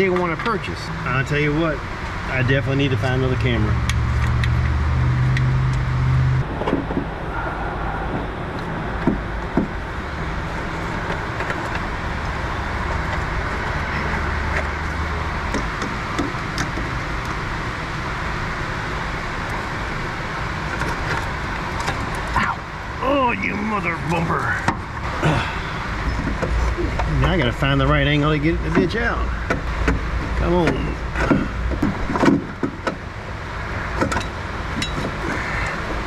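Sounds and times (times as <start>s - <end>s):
steady rushing background noise: 0.0s - 36.0s.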